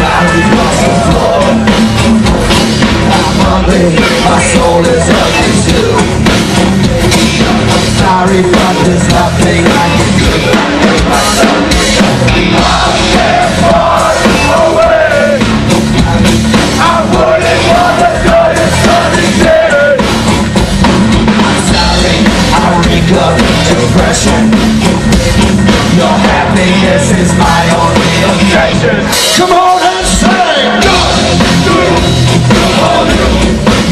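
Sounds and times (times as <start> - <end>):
person singing: 0.0 - 20.1, 21.3 - 33.9
live rock band playing: 0.0 - 33.9.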